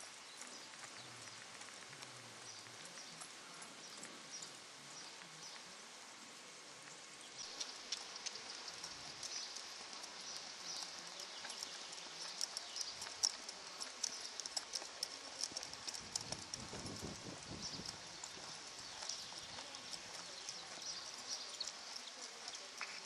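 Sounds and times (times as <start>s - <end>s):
horse hooves on sand: 0.0s - 23.0s.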